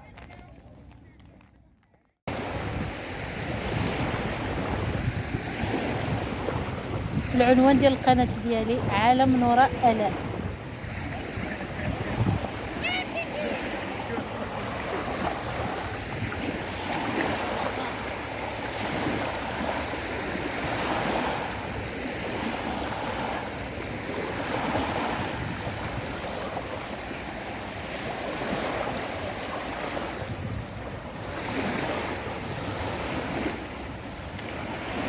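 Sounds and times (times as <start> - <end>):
sea waves washing ashore: 2.3 - 35.0
wind on microphone: 2.3 - 35.0.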